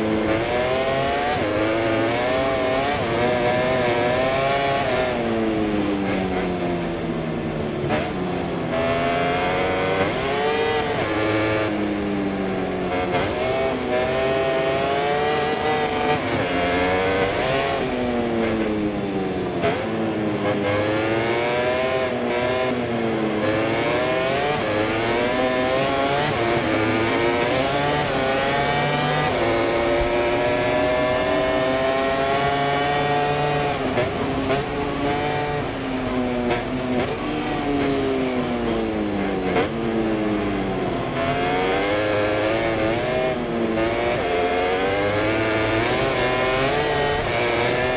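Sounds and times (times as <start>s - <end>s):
racing motorcycle engine revving: 0.0s - 47.9s.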